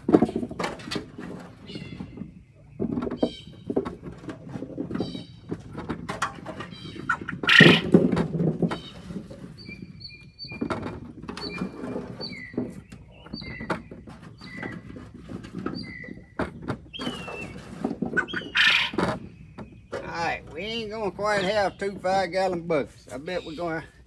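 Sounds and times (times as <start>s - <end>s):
potatoes knocking in bucket: 0.0s - 24.0s
bird chirping: 1.3s - 24.0s.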